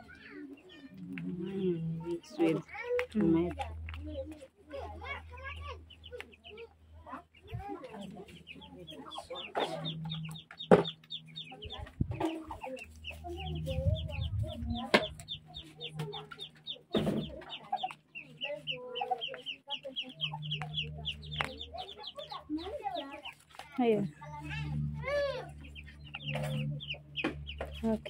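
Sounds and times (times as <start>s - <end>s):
chickens clucking: 0.0s - 28.0s
chicks peeping: 0.0s - 28.0s.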